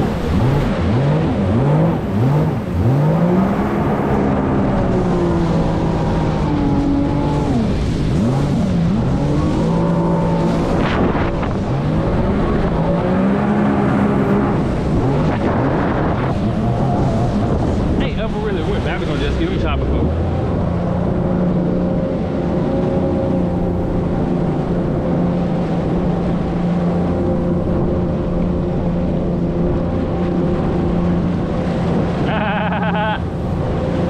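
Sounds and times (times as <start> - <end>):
jet ski engine revving: 0.0 - 34.0.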